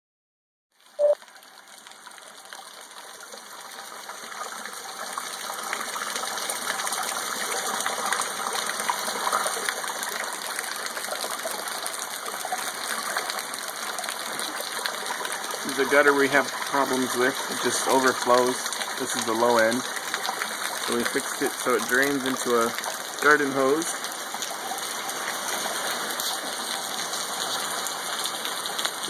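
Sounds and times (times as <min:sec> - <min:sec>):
rainwater gushing and splashing: 0:00.8 - 0:29.0.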